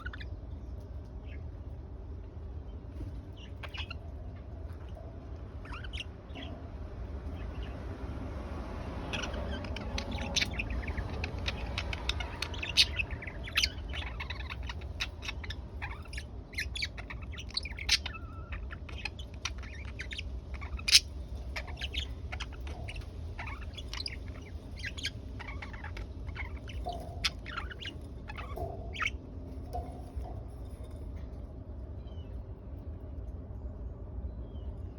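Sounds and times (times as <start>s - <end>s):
budgerigars chirping: 0.0s - 1.7s, 3.0s - 31.0s
steady low hum: 0.0s - 34.9s.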